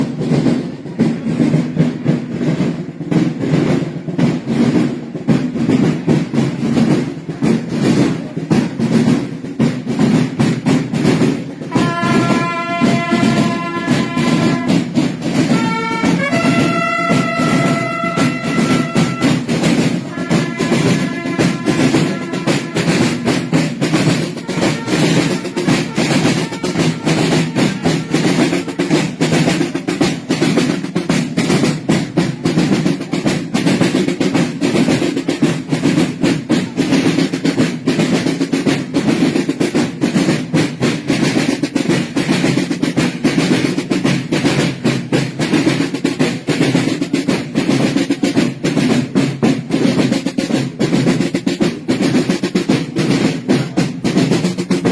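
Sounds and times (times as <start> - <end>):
marching snare drums rolling: 0.0 - 54.9.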